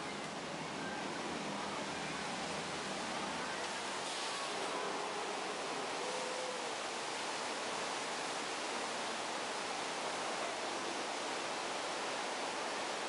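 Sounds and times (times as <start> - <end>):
water cascade rushing: 0.0 - 13.0.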